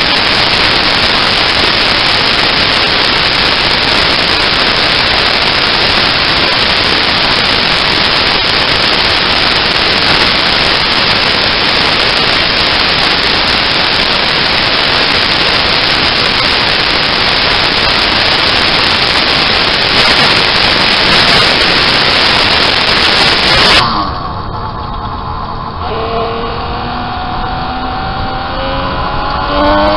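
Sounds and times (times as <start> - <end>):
microphone noise hiss: 0.0 - 29.9.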